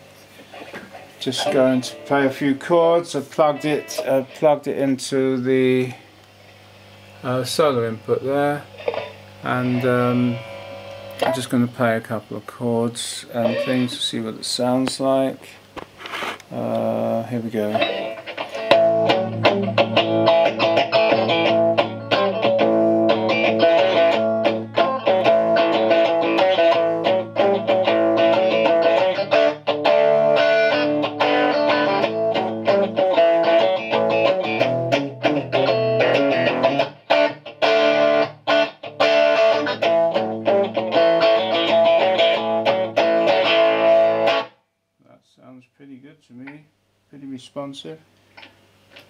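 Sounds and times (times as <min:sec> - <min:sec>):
electric guitar chords: 0:00.0 - 0:11.8, 0:13.2 - 0:14.2, 0:16.5 - 0:44.6.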